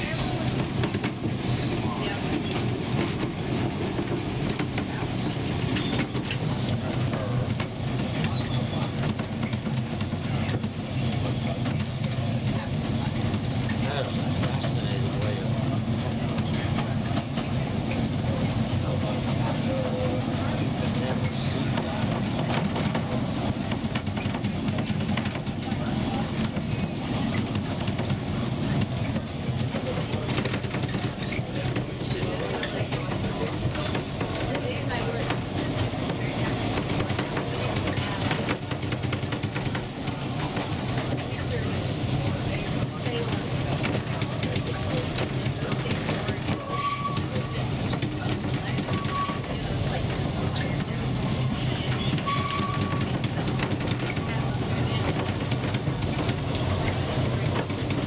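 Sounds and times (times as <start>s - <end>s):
train clicks and rattles: 0.0s - 58.0s
train coaches rumbling: 0.0s - 58.0s.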